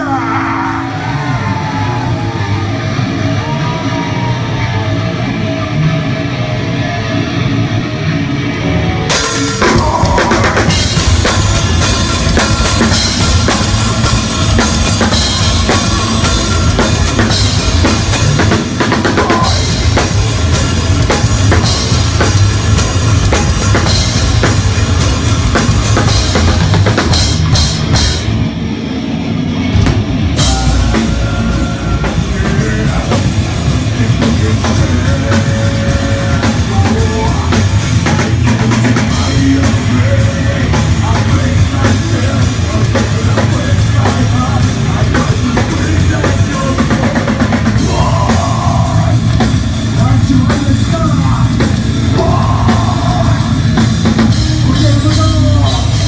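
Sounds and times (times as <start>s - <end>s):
distorted electric guitar: 0.0s - 56.0s
heavy metal band playing: 0.0s - 56.0s
drum kit and cymbals: 8.0s - 56.0s.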